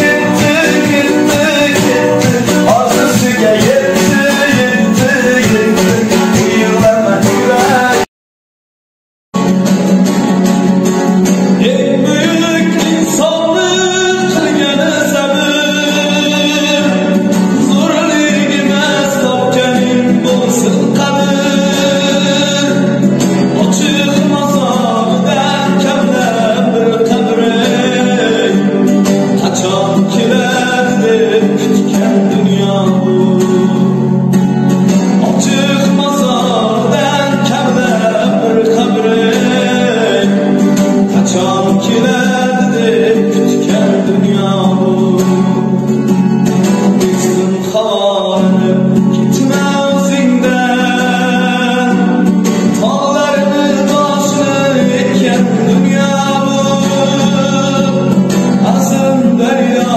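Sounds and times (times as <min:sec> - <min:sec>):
plucked string accompaniment: 0:00.0 - 0:08.1, 0:09.4 - 0:59.9
young man singing: 0:00.0 - 0:08.1, 0:11.3 - 0:59.9.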